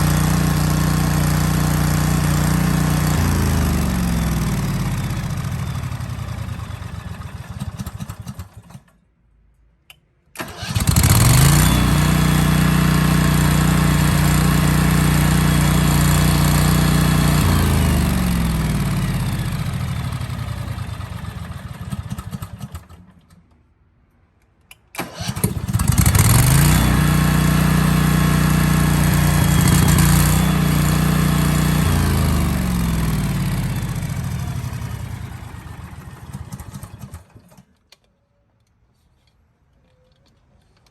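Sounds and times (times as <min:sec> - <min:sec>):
generator engine running: 0:00.0 - 0:08.8, 0:10.4 - 0:23.0, 0:25.0 - 0:37.6.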